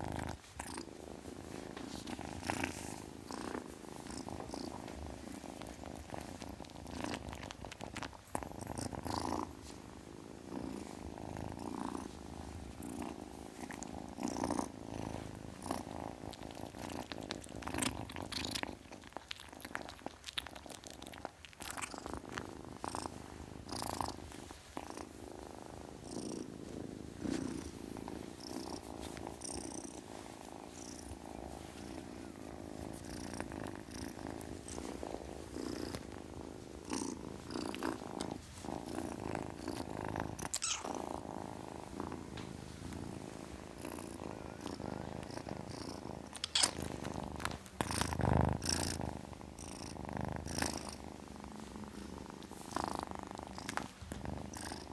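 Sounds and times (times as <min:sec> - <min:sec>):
kitten purring: 0:00.0 - 0:54.9.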